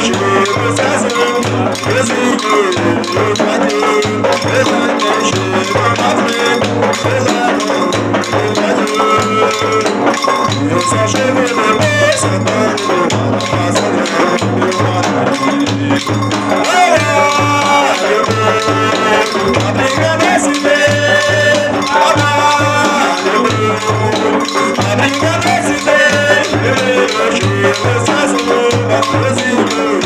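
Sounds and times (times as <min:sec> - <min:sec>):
pitched melodic lines: 0:00.0 - 0:30.0
rattles shaking: 0:00.0 - 0:30.0
steady low drumbeat: 0:00.0 - 0:30.0.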